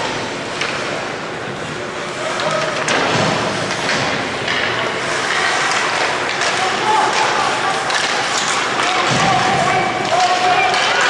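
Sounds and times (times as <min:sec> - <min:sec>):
skates scraping ice: 0:00.0 - 0:11.0
sticks and puck clacking: 0:00.0 - 0:11.0.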